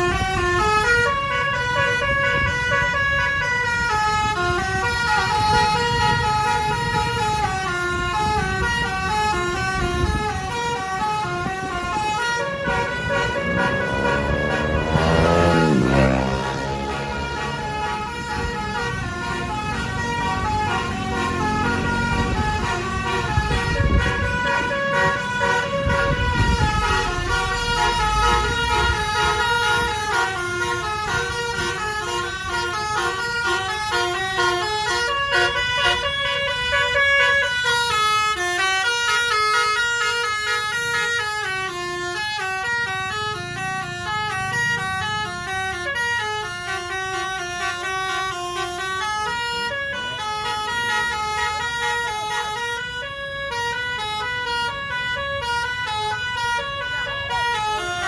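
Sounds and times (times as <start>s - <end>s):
bus horn melody: 0.0s - 58.0s.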